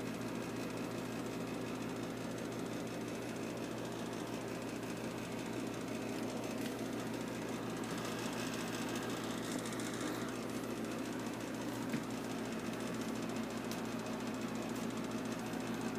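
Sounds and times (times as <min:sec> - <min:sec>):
low mechanical hum: 0:00.0 - 0:15.9.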